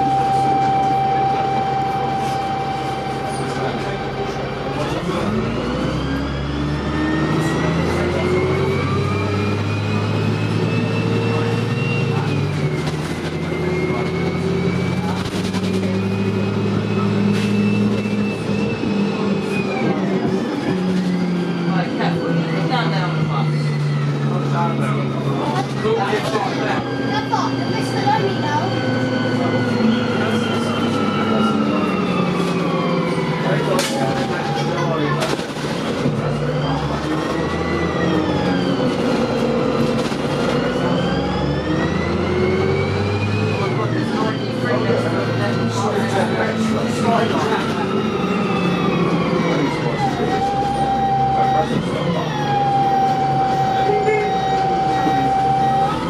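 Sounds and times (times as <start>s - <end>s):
bus engine humming: 0.0s - 56.0s
high drivetrain whine: 0.0s - 56.0s.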